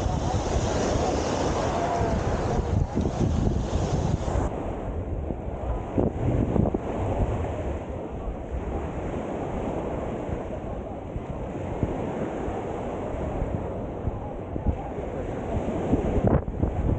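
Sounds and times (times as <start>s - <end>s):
surf waves breaking: 0.0s - 16.9s
wind buffeting microphone: 0.0s - 16.9s.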